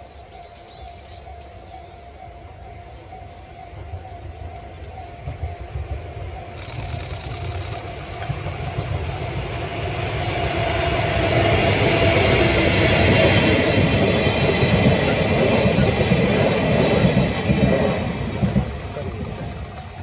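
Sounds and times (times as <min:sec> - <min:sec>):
train wheels clattering on rails: 0:03.7 - 0:20.0.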